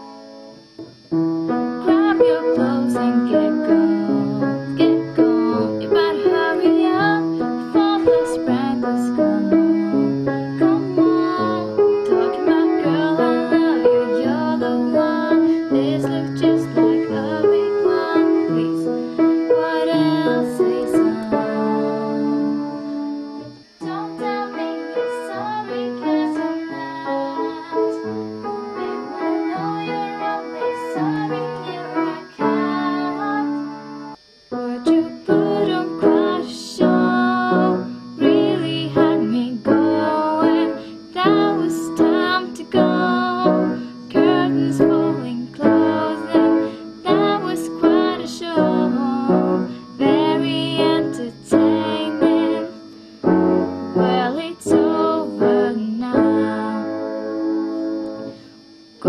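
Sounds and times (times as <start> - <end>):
piano chords and melody: 0.0 - 59.0
woman singing: 1.8 - 22.8, 23.5 - 28.2, 28.8 - 34.0, 34.6 - 57.0.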